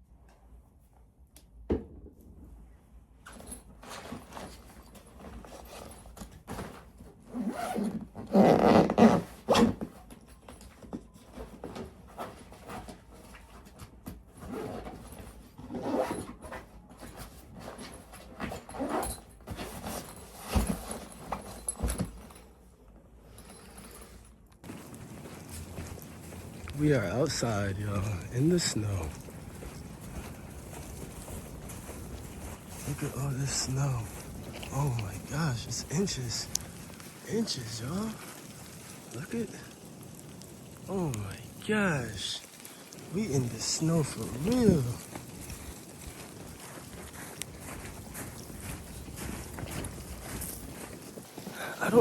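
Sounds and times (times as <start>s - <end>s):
belongings rustling: 3.3s - 52.0s.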